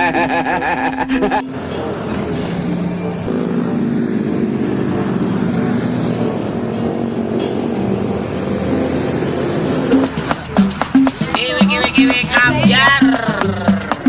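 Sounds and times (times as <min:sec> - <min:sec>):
traffic and road noise: 0:00.0 - 0:14.0
vehicle engine running: 0:01.3 - 0:14.0.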